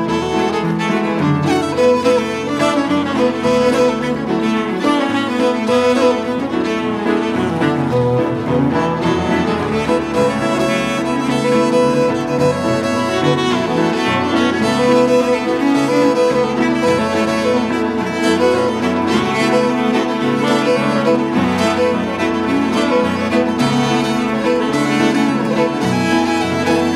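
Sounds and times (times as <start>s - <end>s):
bowed cello: 0.0s - 26.9s
fiddle: 0.0s - 26.9s
tenor saxophone: 0.0s - 26.9s.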